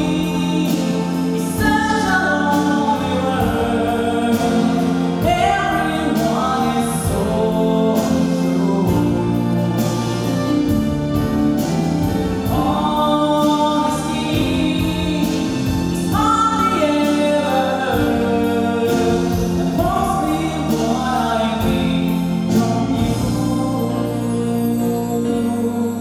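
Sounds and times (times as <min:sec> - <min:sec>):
instrumental accompaniment: 0:00.0 - 0:26.0
person singing: 0:00.0 - 0:26.0.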